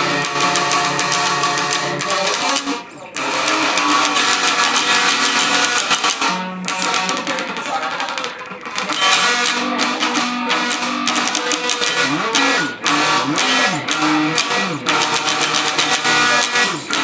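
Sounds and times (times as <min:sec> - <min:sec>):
distorted electric guitar metal music: 0:00.0 - 0:17.0.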